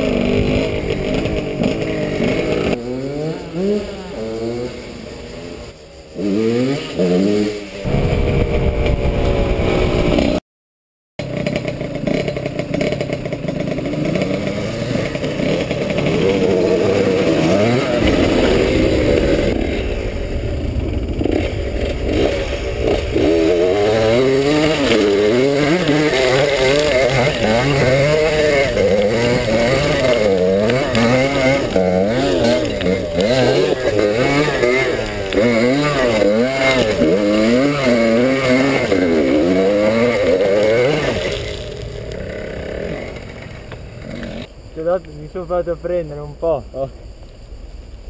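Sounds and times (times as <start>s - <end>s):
clatter over rough ground: 0.0s - 2.9s, 11.2s - 48.0s
motorcycle engine revving: 0.0s - 10.4s, 11.2s - 46.9s.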